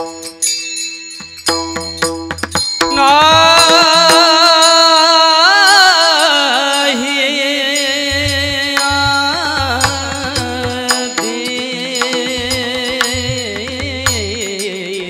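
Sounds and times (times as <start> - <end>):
percussion strokes: 0.0 - 15.0
person singing ornamented notes: 2.8 - 15.0.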